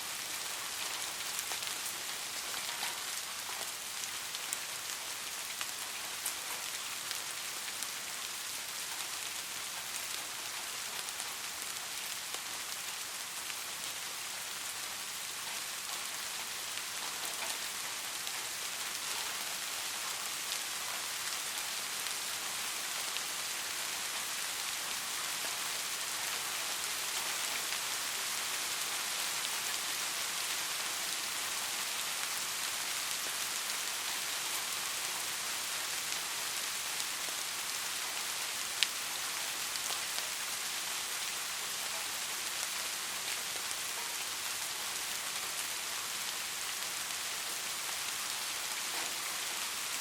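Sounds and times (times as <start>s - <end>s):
steady rain hiss: 0.0s - 50.0s.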